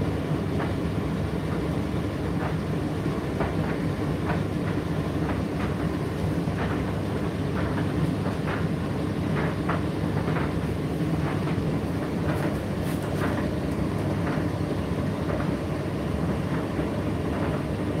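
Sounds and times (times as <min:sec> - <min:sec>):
tumble dryer humming: 0:00.0 - 0:18.0.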